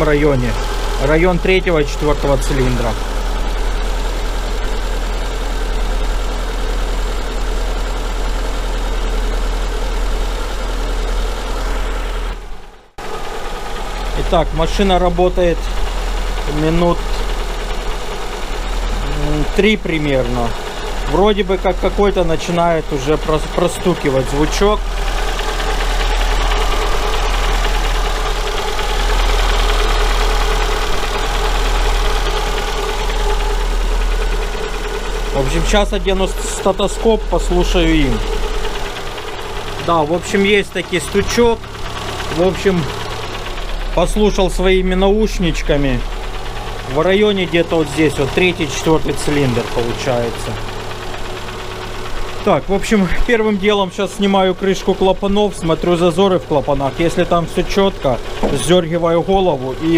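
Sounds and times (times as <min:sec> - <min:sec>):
car engine idling: 0:00.0 - 0:59.9
light engine knock: 0:00.0 - 0:59.9.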